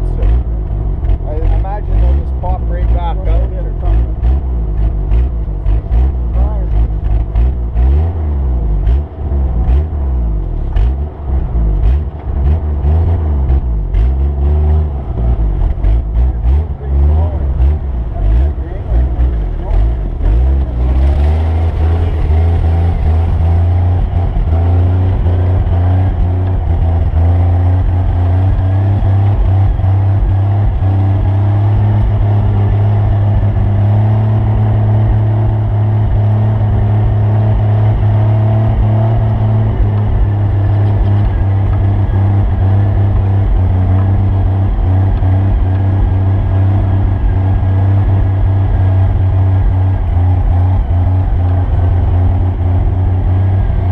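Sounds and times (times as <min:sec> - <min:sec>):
vehicle engine under load: 0:00.0 - 0:53.9.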